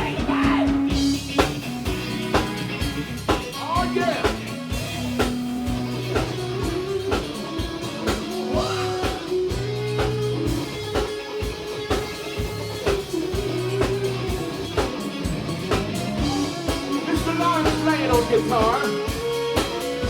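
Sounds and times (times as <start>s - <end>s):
bass line: 0.0s - 20.0s
drum kit beat: 0.0s - 20.0s
guitar: 0.0s - 20.0s
held melody line: 0.0s - 20.0s.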